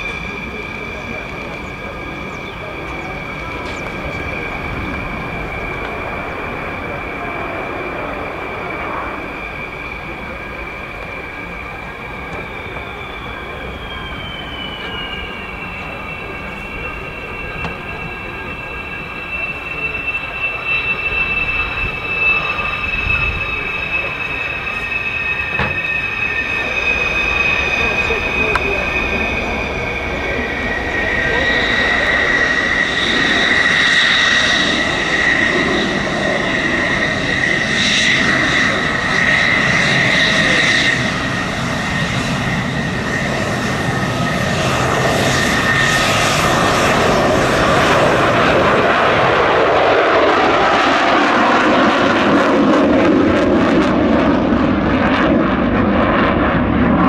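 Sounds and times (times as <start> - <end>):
jet engine rumble and turbine whine: 0.0 - 57.0.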